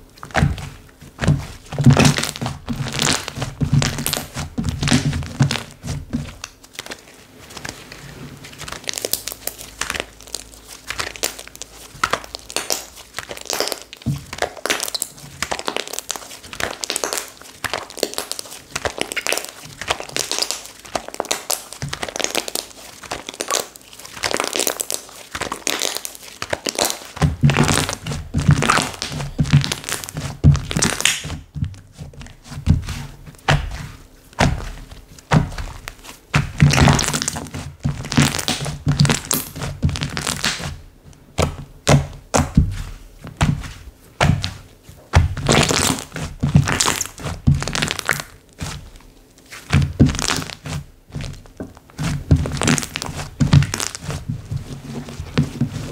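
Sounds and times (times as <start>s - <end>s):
slime crackling and popping: 0.0s - 7.9s, 8.5s - 40.8s, 41.4s - 54.6s
slime squished by hand: 0.1s - 55.9s.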